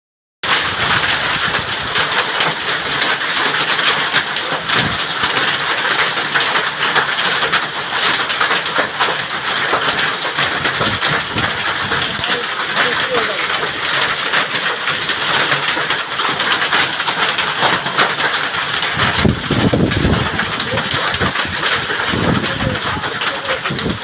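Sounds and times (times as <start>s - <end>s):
hailstones clattering: 0.4s - 24.0s
heavy rain hissing: 0.5s - 24.0s.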